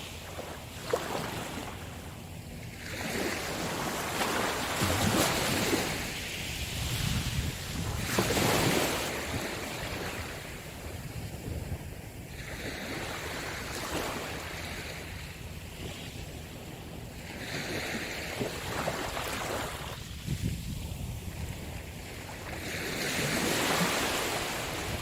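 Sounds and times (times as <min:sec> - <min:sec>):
ocean waves breaking: 0:00.0 - 0:25.0
wind rumble on microphone: 0:02.7 - 0:25.0.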